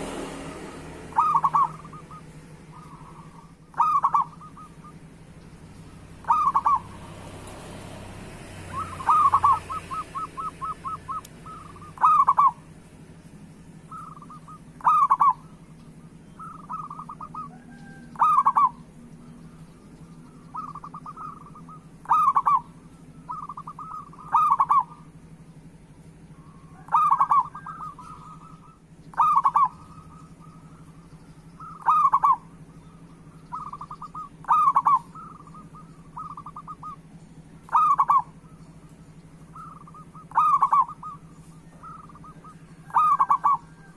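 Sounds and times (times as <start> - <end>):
doves cooing: 0.0 - 43.9
faint steady hum: 0.0 - 43.9.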